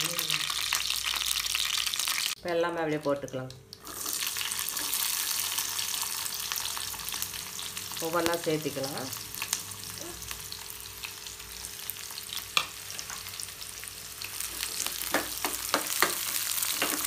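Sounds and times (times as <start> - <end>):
vegetables sizzling in hot oil: 0.0 - 2.4, 3.2 - 17.0.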